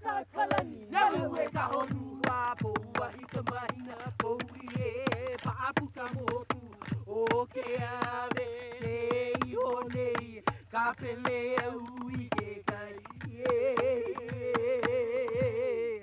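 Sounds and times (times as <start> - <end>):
struck percussion beats: 0.5 - 15.7.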